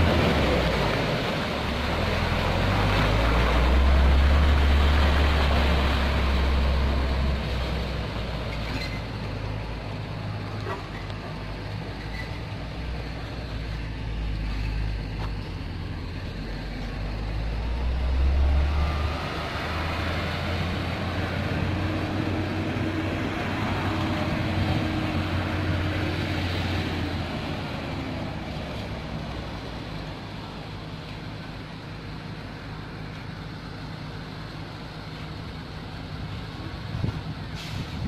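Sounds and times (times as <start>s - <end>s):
diesel truck engine running: 0.0s - 38.0s.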